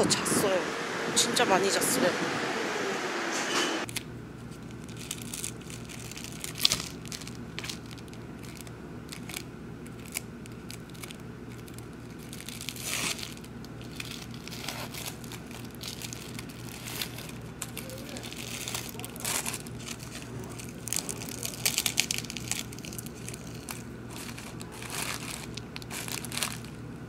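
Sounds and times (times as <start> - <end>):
steady low hum: 0.0 - 27.0
plastic wrapper crinkling and tearing: 3.8 - 26.8.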